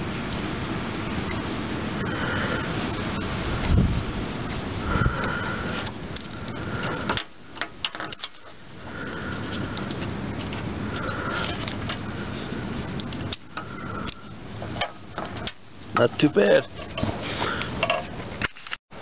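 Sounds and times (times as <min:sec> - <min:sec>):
steady rushing noise: 0:00.0 - 0:18.4.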